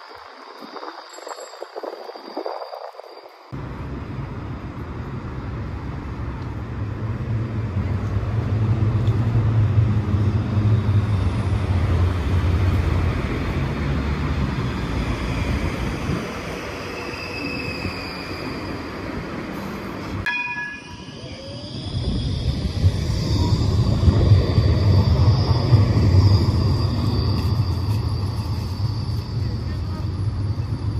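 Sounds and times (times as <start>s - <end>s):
street noise: 0.0s - 30.9s
tram steady tones: 0.0s - 30.9s
tram wheels rumbling on rails: 0.0s - 30.9s.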